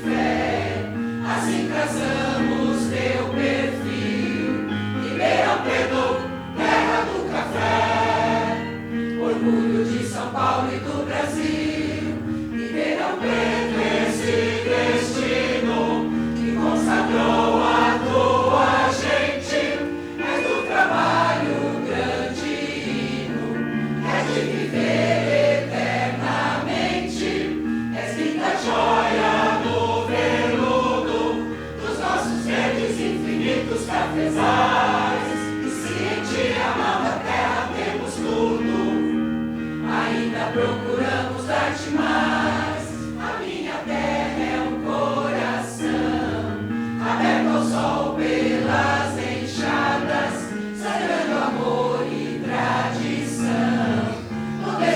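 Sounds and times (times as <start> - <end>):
choir singing in parts: 0.0 - 54.9
electronic keyboard: 0.0 - 54.9.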